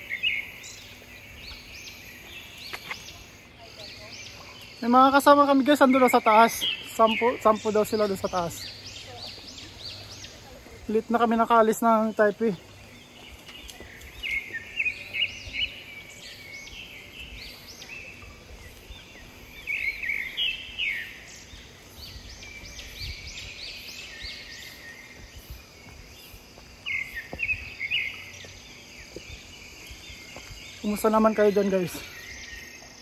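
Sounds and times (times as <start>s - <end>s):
faint insect drone: 0.0s - 33.0s.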